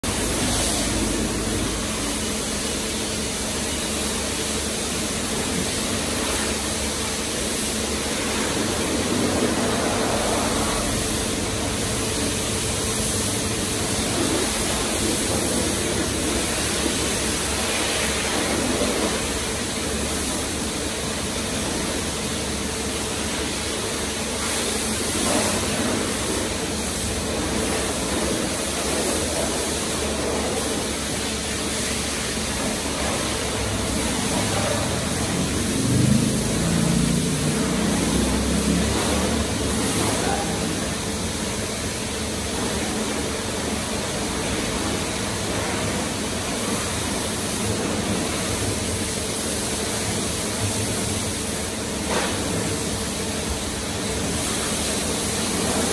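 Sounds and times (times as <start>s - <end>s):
pressure washer spraying water: 0.0s - 55.9s.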